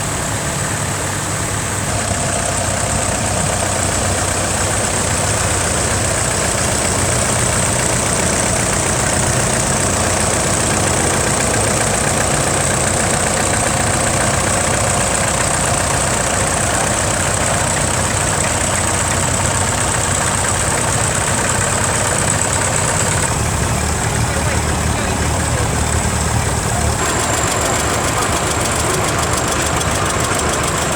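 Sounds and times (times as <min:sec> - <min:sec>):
tractor engines running: 0:00.0 - 0:30.9.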